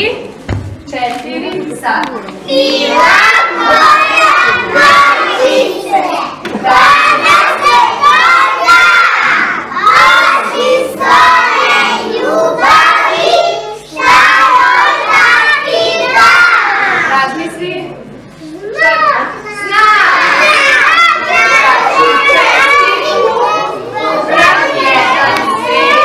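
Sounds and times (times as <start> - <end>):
children speaking in unison: 2.0 - 17.2, 18.3 - 26.0.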